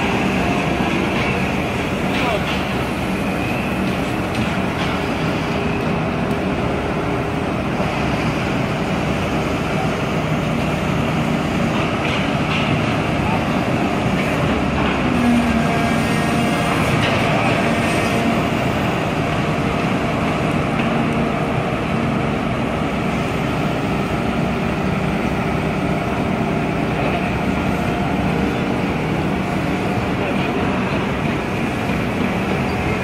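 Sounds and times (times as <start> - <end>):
excavator diesel engine: 0.0 - 33.0
excavator hydraulics working: 0.0 - 33.0.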